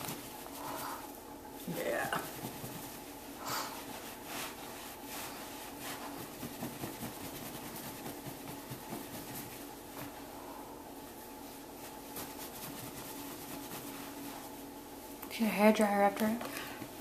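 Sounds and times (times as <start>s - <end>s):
towel rubbing wet fur: 0.0s - 15.2s.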